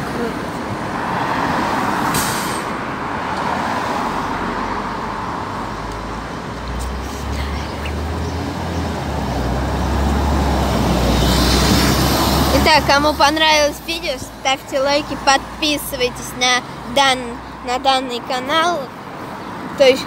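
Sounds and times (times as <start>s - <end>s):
street traffic noise: 0.0s - 20.0s
bus engine hum: 1.7s - 3.4s, 4.1s - 19.0s.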